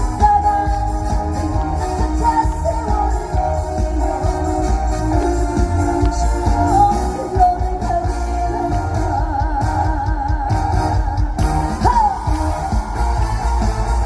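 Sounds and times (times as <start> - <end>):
woman singing with vibrato: 0.0 - 13.7
amplified band with heavy bass: 0.0 - 14.0.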